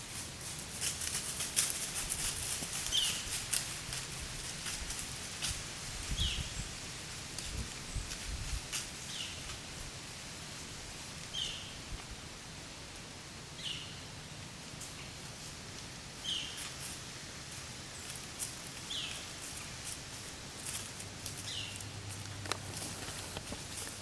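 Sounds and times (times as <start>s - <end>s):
leaves rustling: 0.0s - 13.8s, 14.4s - 24.0s.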